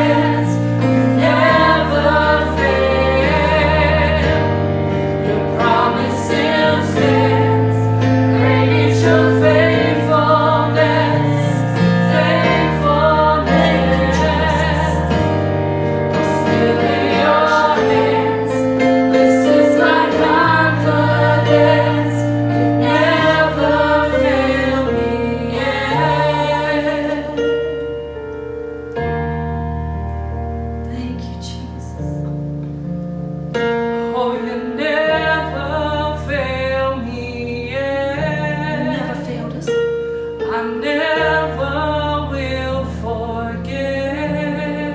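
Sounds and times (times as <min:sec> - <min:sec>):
group singing worship song: 0:00.0 - 0:28.2, 0:34.0 - 0:44.9
low held chords: 0:00.0 - 0:44.9.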